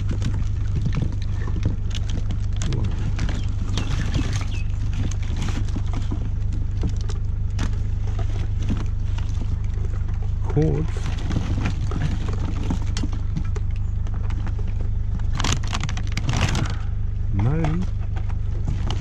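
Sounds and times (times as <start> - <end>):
rustling and clicking of cables: 0.0 - 19.0
steady low rumble: 0.0 - 19.0.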